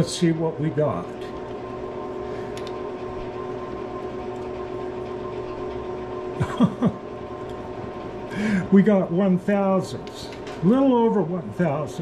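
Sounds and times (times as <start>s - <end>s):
space heater humming: 0.0s - 12.0s.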